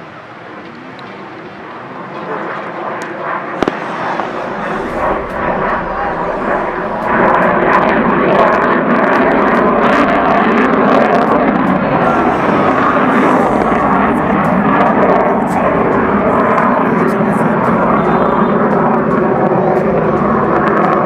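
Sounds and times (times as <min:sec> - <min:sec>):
military jet engine: 0:00.0 - 0:21.0.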